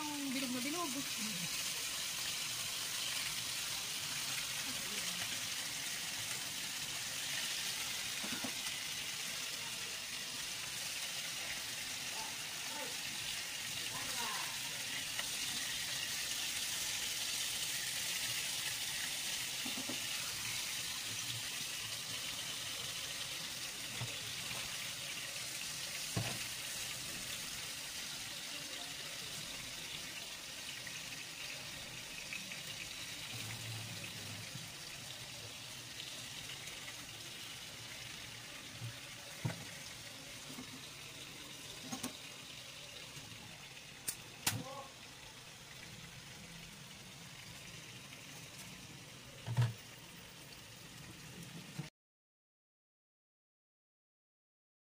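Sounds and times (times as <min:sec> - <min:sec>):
sausages sizzling in hot oil: 0:00.0 - 0:51.9.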